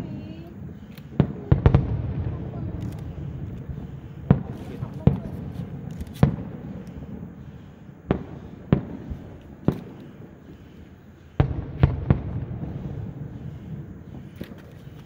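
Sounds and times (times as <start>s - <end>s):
fireworks bangs with echo: 0.0s - 15.0s.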